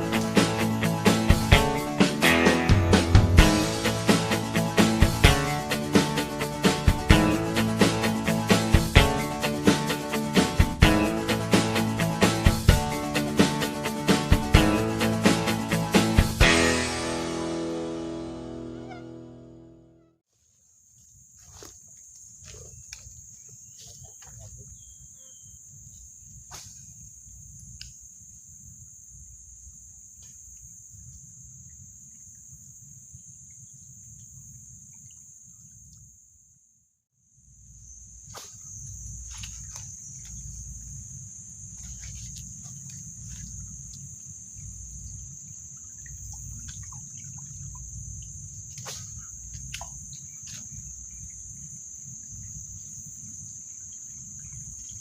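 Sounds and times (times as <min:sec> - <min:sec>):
insects chirring: 0:00.0 - 0:19.6, 0:20.4 - 0:55.0.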